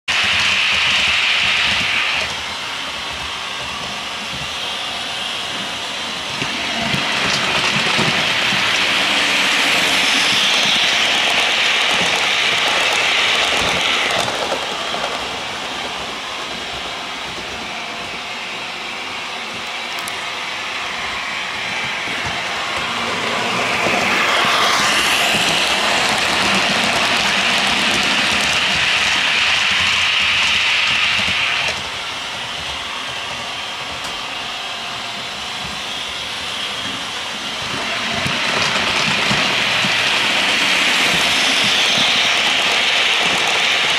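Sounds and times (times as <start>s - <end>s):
model train wheels rumbling: 0.1s - 43.9s.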